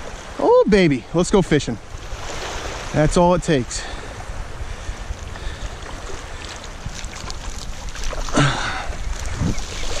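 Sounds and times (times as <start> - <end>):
small waves lapping: 0.0 - 10.0
wind buffeting microphone: 1.2 - 10.0.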